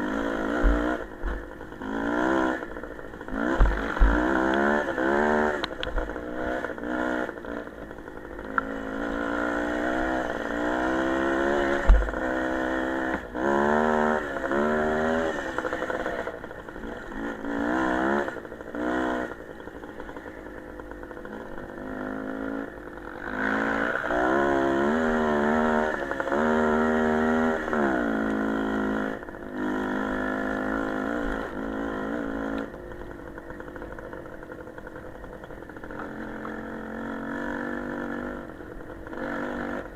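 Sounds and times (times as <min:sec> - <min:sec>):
small motorcycle engines revving: 0:00.0 - 0:39.9.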